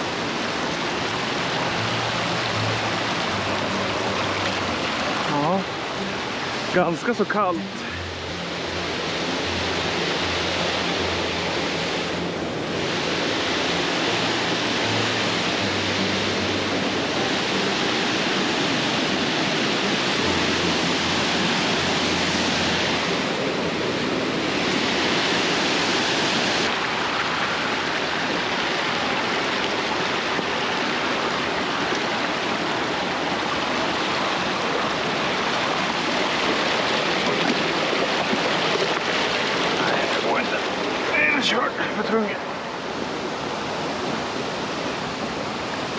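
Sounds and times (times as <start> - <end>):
stream water rushing: 0.0 - 45.9.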